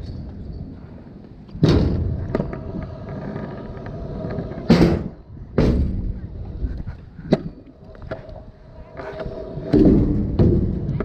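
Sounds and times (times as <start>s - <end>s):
scooter wheels rolling on pavement: 0.0s - 4.7s, 6.2s - 11.0s.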